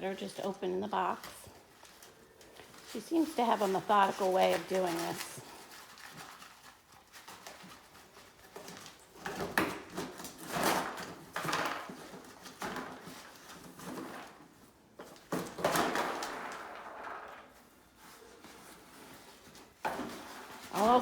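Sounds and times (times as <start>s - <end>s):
cardboard rustling and scraping: 1.0s - 21.0s.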